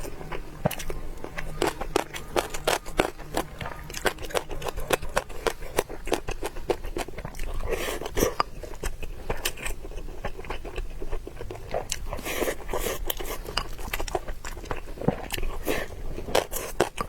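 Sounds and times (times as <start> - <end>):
crunchy eating and chewing: 0.0 - 17.0.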